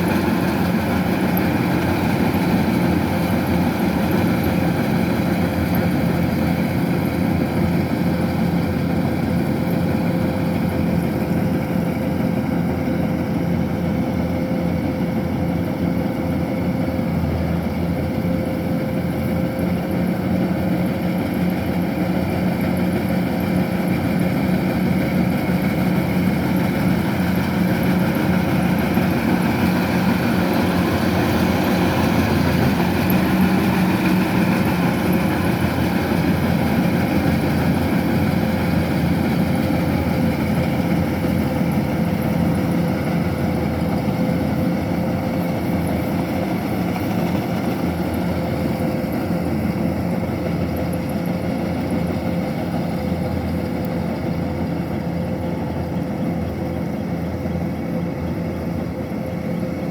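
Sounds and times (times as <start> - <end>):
combine harvester diesel engine running: 0.0 - 59.9.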